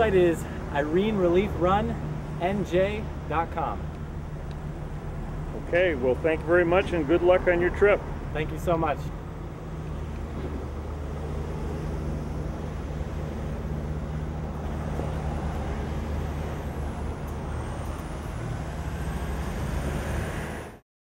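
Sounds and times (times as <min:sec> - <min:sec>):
vehicle engine rumbling: 0:00.0 - 0:20.8.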